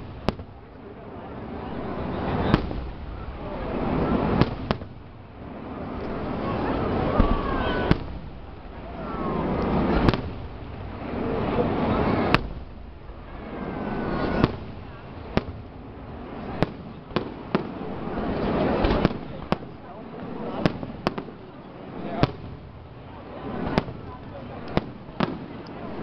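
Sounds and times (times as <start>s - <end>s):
faint fireworks whistles: 0.0s - 26.0s
fireworks bursting bangs: 0.0s - 26.0s.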